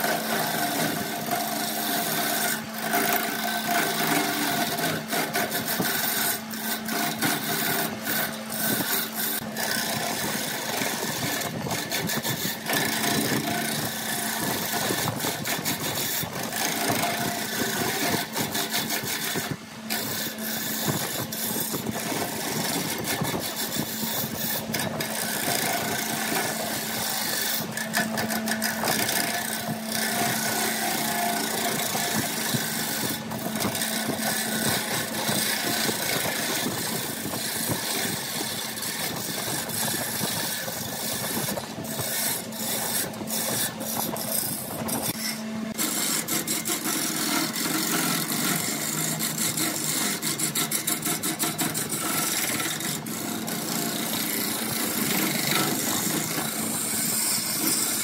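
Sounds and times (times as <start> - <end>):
lathe humming: 0.0 - 58.0
lathe tool cutting wood: 0.0 - 58.0.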